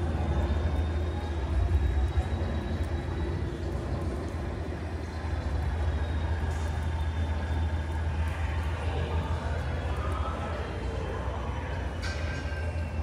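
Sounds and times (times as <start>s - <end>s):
rain: 0.0s - 13.0s.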